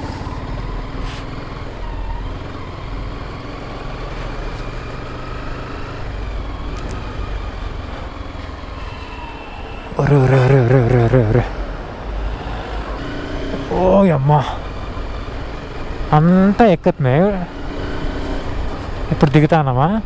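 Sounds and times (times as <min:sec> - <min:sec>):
motorcycle engine rumbling: 0:00.0 - 0:20.0
vehicles passing: 0:00.0 - 0:20.0.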